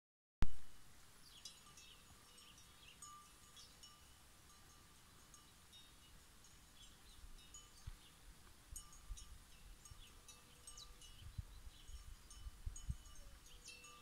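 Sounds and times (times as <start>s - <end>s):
faint cowbells clinking: 1.2s - 14.0s.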